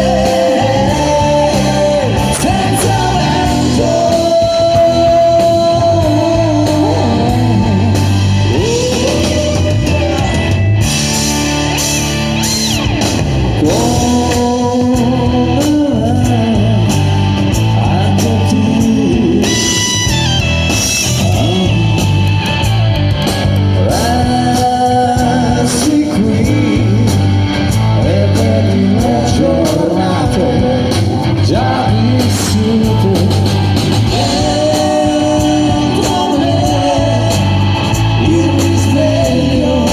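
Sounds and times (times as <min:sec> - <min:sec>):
lead vocal singing: 0:00.0 - 0:22.9, 0:23.6 - 0:39.9
rock band playing live: 0:00.0 - 0:39.9.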